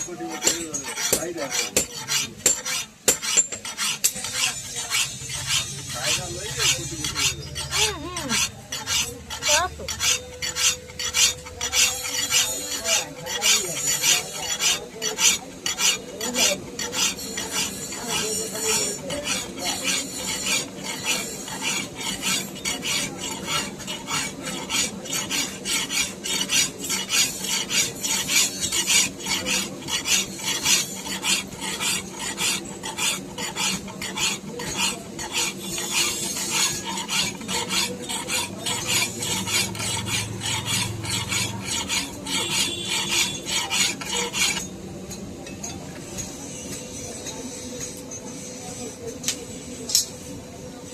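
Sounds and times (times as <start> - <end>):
knife scraping on sharpener: 0.0 - 50.3.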